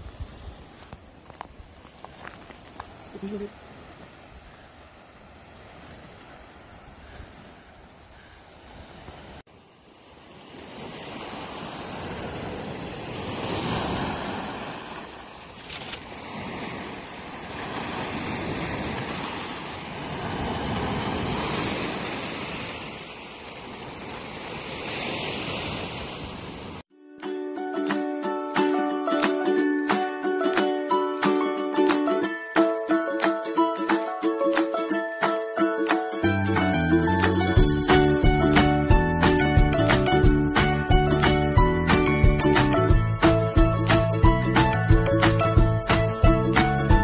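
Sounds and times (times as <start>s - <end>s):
sea waves breaking: 0.0s - 26.9s, 27.6s - 47.0s.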